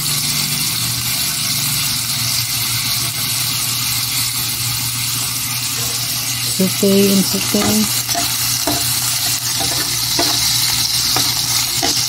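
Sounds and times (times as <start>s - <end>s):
garlic and onion sizzling in oil: 0.0s - 12.0s.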